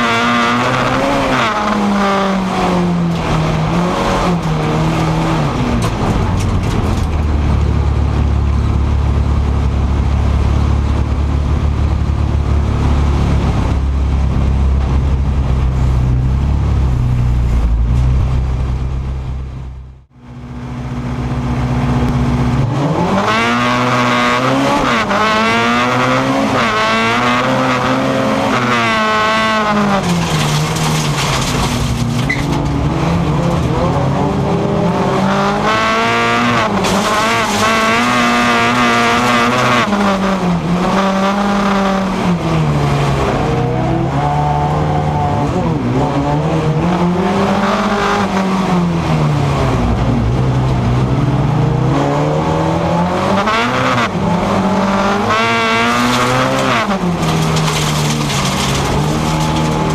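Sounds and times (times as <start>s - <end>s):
car engine droning and revving: 0.0s - 59.9s.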